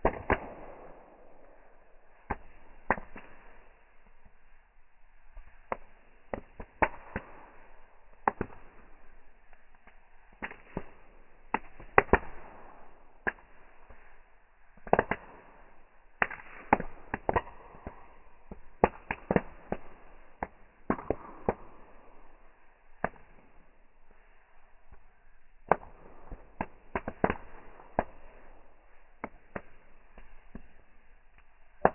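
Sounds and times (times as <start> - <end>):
bonfire crackling: 0.0 - 31.9.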